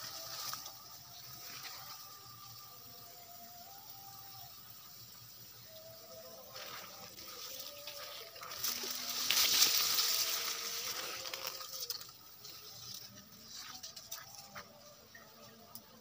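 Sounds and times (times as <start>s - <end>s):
tall grass leaves rustling: 0.0s - 16.0s.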